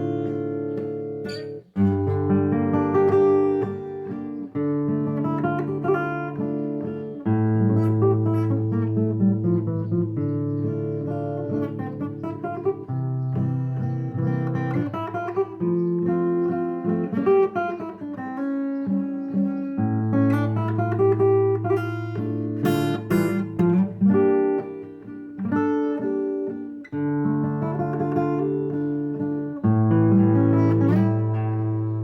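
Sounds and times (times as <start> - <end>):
acoustic guitar waltz: 0.0 - 32.0.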